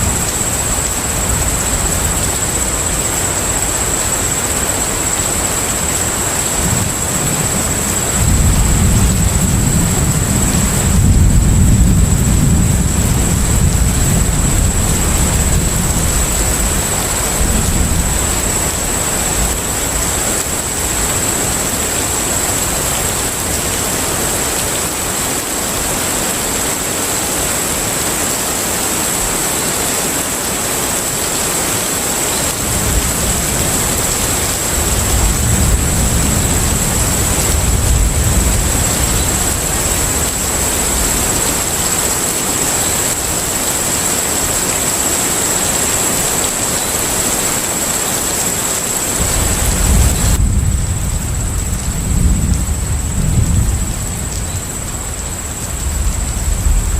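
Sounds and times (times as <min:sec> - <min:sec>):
rushing wind and water: 0:00.0 - 0:56.9.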